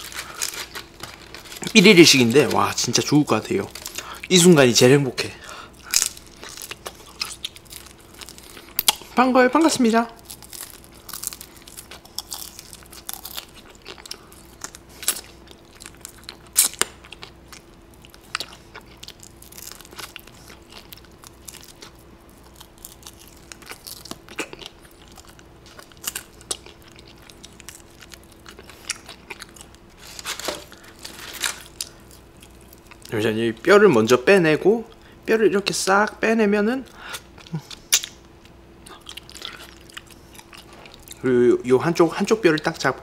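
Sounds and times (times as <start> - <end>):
crunchy chewing: 0.0 - 4.3, 5.8 - 9.2, 10.2 - 33.6, 37.1 - 41.2.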